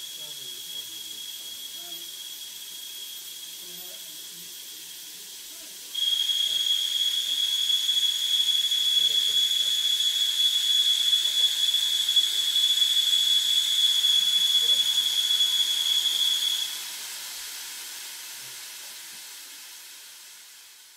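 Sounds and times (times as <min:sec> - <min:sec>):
high whistle: 0:00.0 - 0:17.4
gas discharge hissing: 0:00.0 - 0:20.9.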